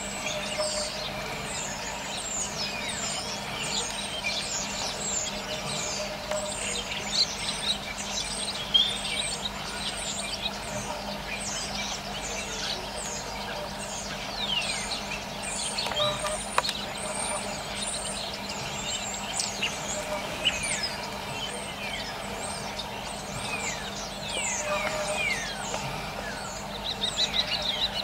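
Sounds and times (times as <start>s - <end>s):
birds chirping and whistling: 0.0s - 28.0s
faint steady hum: 0.0s - 28.0s.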